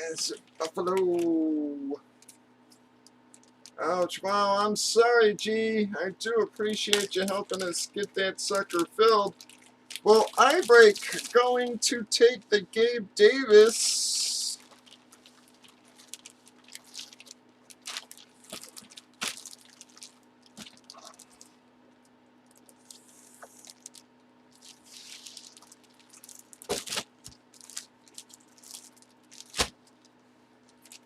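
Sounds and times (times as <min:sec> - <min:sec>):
cards and plastic sleeves rustling: 0:00.0 - 0:01.4, 0:06.5 - 0:21.6, 0:22.5 - 0:31.0.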